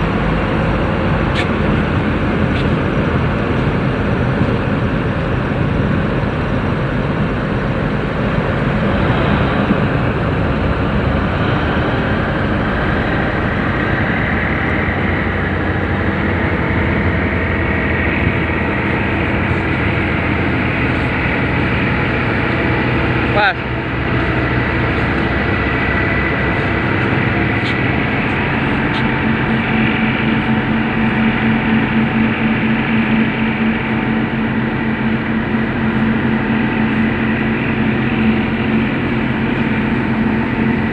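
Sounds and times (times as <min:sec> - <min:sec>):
diesel engine running: 0:00.0 - 0:40.9
high whine: 0:00.0 - 0:40.9.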